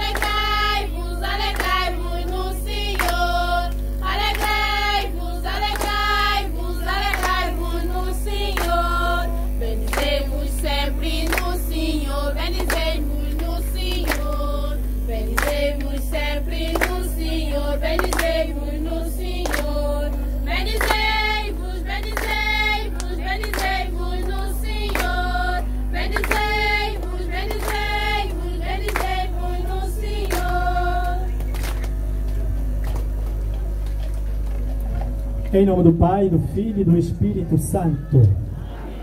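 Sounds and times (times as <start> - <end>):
congregation singing a hymn: 0.0 - 31.6
rhythmic hand-clapping: 0.0 - 35.9.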